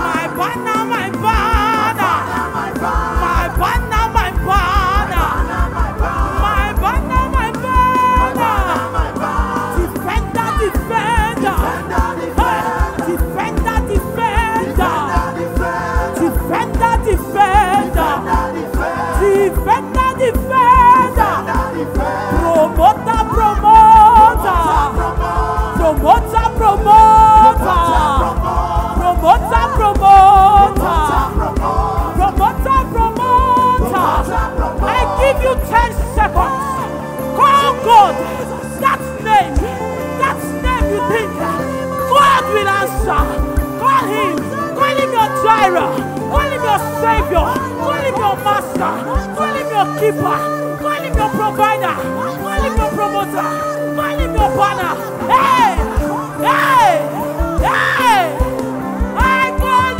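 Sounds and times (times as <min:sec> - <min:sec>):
electric bass: 0:00.0 - 0:59.9
gospel band playing: 0:00.0 - 0:59.9
person singing: 0:00.0 - 0:59.9.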